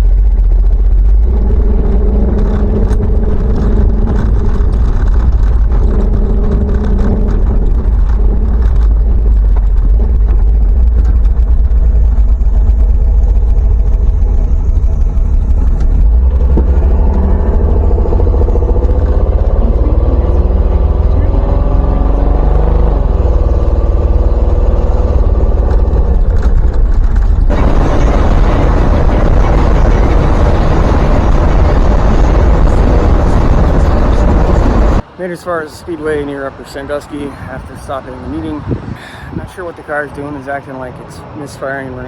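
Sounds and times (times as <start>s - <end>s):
vehicle engine revving: 0.0s - 41.4s.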